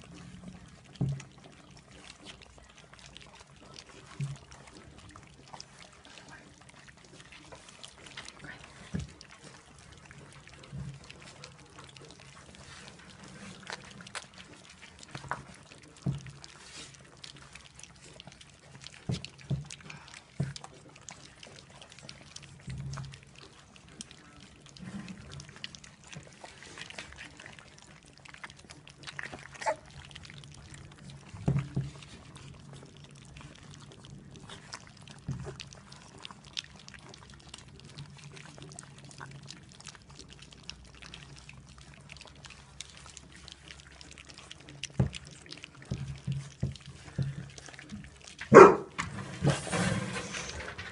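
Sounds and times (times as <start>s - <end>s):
puppies lapping and chewing: 0.0s - 50.9s.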